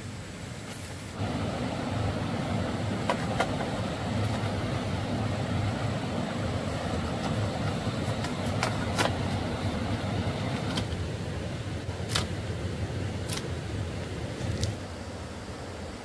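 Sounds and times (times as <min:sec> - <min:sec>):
engine rumbling: 0:01.2 - 0:16.0.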